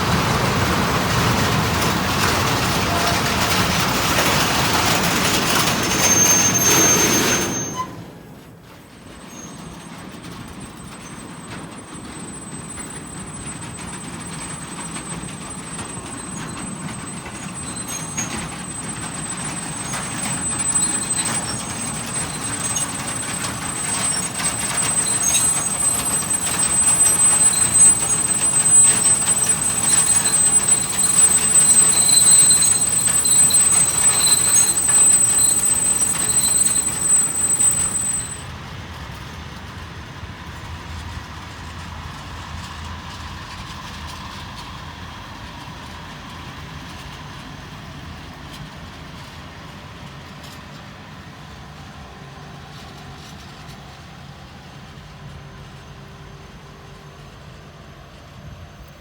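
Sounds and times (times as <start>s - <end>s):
electric train approaching: 0.0s - 59.0s.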